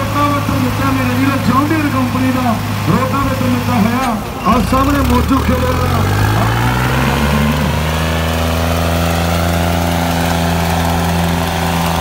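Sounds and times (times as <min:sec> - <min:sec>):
tractor diesel engines droning: 0:00.0 - 0:12.0.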